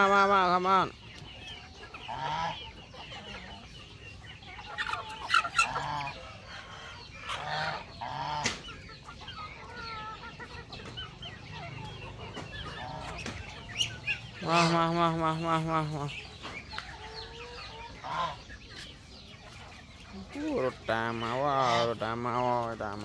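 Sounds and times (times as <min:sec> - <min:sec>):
chickens clucking: 0:00.0 - 0:23.0
geese honking: 0:00.0 - 0:23.0.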